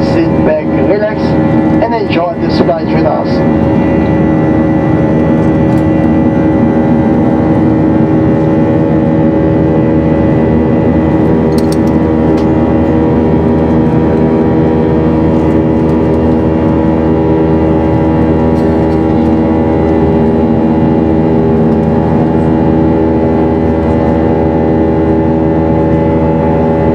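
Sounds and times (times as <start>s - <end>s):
jet engine drone in cabin: 0.0s - 26.9s.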